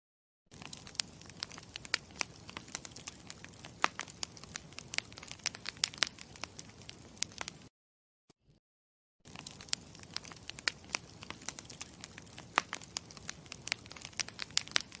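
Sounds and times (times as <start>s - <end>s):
campfire crackling: 0.5s - 7.7s, 9.3s - 15.0s.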